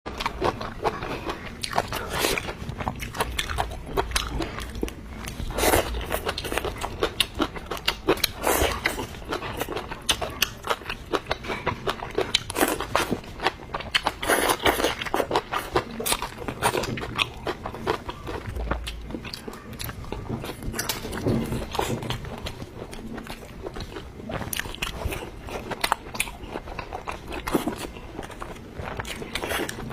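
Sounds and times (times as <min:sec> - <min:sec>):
person chewing crunchy food: 0:00.1 - 0:29.9.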